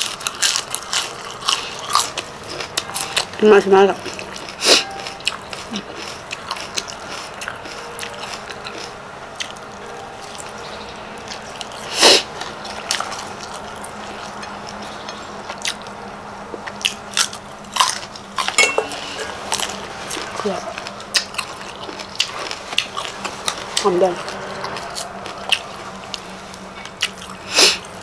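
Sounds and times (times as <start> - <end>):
chewing and biting food: 0.0 - 9.7, 10.3 - 16.0, 16.6 - 28.0.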